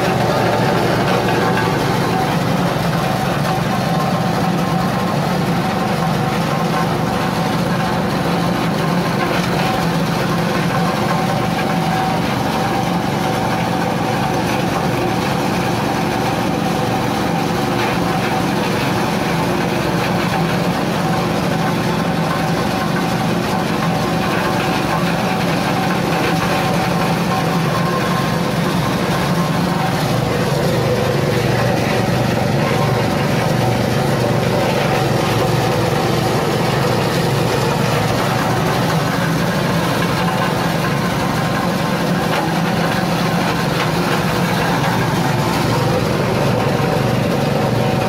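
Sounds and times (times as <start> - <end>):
shredder grinding husk: 0.0 - 48.0
small petrol engine running: 0.0 - 48.0.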